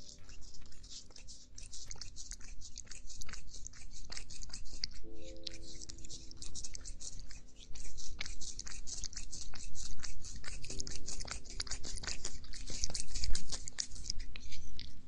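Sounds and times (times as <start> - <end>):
cat crunching food: 0.0 - 5.0, 5.6 - 15.0.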